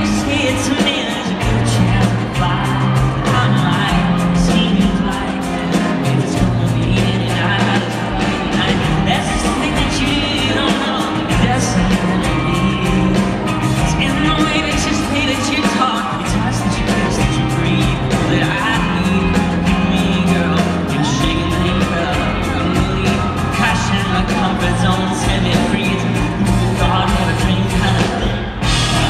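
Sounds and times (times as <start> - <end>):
live band playing: 0.0 - 29.0
man singing: 0.0 - 29.0
steady drumbeat: 0.0 - 29.0.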